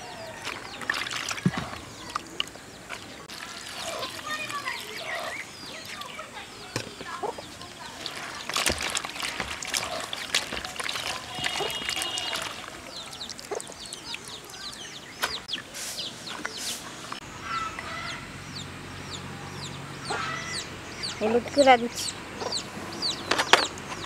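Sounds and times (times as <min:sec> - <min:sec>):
chickens clucking: 0:00.0 - 0:08.5, 0:09.2 - 0:18.3, 0:19.6 - 0:24.0.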